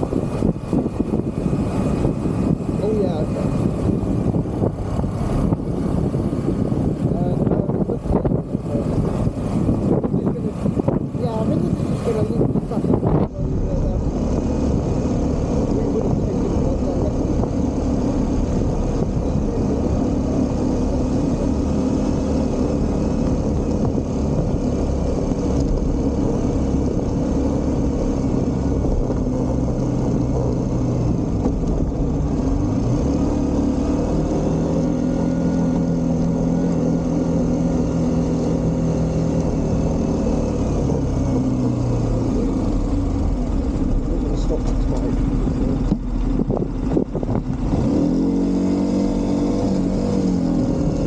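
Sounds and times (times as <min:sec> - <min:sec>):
motorcycle engine cruising: 0:00.0 - 0:51.0
road and wind noise: 0:00.0 - 0:51.0.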